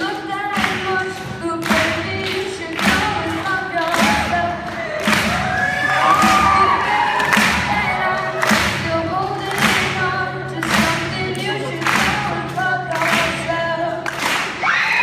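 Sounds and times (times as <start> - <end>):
boy singing: 0.0 - 14.0
acoustic guitar strumming: 0.0 - 14.6.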